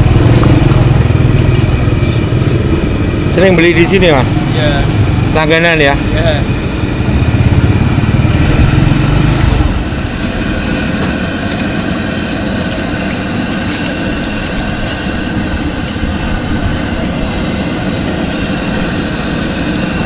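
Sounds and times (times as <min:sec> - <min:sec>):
motorbike street traffic roar: 0:00.0 - 0:20.0.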